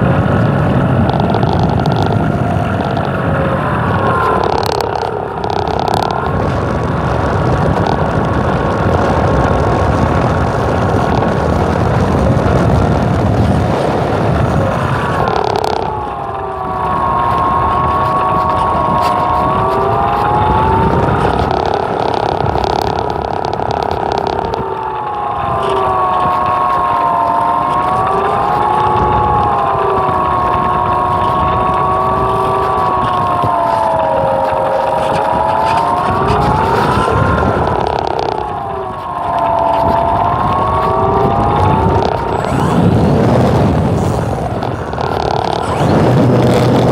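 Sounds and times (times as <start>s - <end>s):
small aircraft engine: 0.0s - 46.9s
wind buffeting microphone: 0.0s - 46.9s.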